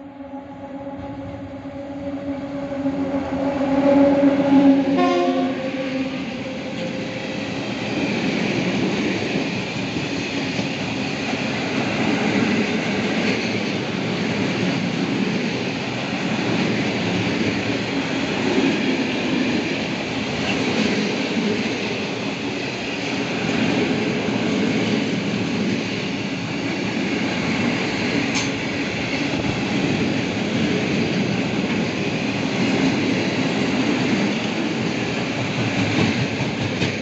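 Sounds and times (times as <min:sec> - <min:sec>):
train wheels running on rail: 0:00.9 - 0:37.0.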